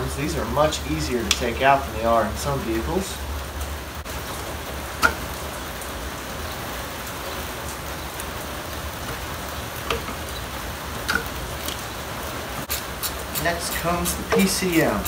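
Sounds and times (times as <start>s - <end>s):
steady hiss with low hum: 0.0s - 15.0s.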